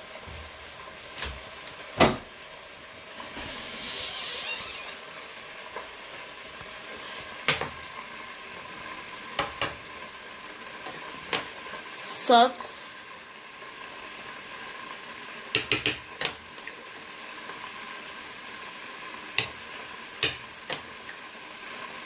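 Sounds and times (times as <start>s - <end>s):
steaming pot hissing: 0.0s - 22.0s.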